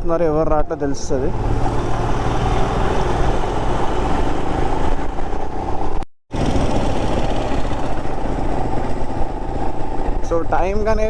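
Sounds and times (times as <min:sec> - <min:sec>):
road noise: 0:00.0 - 0:11.0
motorcycle engine: 0:01.2 - 0:10.6.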